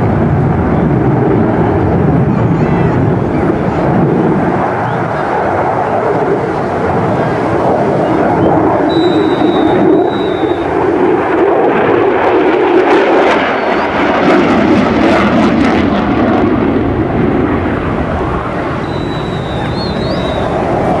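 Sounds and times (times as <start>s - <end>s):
jet engine roar: 0.0s - 21.0s
jet noise crackling: 0.0s - 21.0s.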